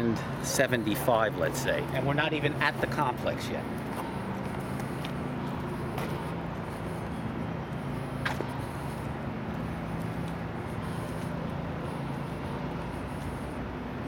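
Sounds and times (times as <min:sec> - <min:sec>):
distant highway traffic: 0:00.0 - 0:14.0.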